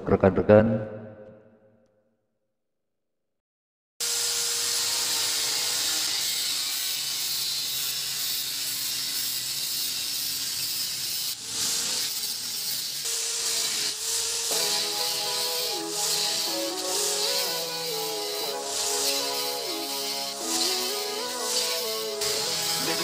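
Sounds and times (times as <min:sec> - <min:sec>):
angle grinder cutting sheet steel: 0:04.0 - 0:23.0.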